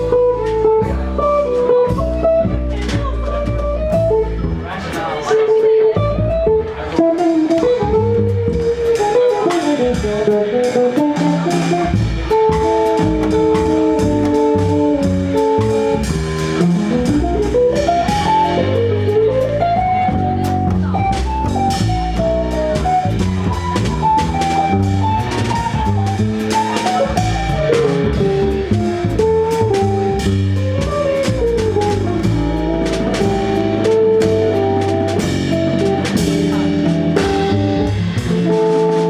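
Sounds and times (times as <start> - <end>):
jazz group playing bossa nova: 0.0 - 39.0.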